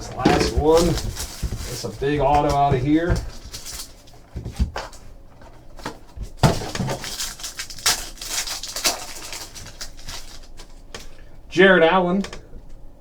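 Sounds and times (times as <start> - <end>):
packaging rustling: 0.0 - 11.3.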